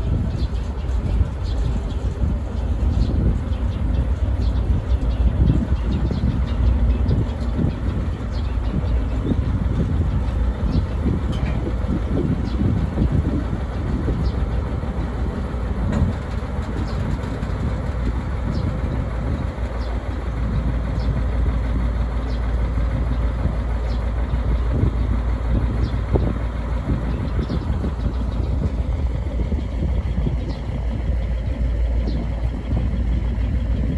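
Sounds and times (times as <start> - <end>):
diesel locomotive engine rumbling: 0.0 - 33.9.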